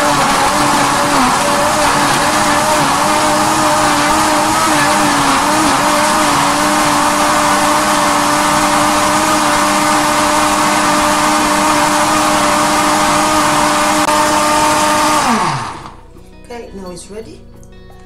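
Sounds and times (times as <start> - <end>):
blender motor whine: 0.0 - 16.1.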